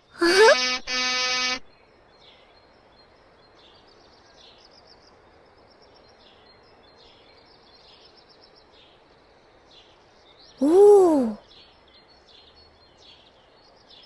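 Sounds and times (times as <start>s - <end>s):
birds chirping softly: 1.7s - 14.0s.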